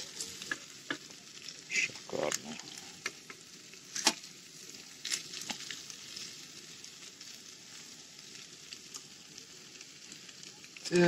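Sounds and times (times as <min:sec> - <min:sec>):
potatoes sizzling in oil: 0:00.0 - 0:11.0.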